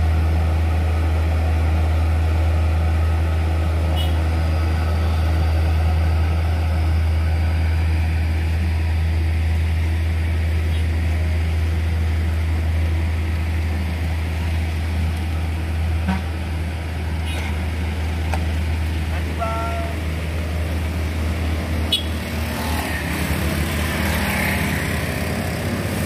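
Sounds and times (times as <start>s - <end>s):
vehicle engines droning: 0.0s - 26.0s.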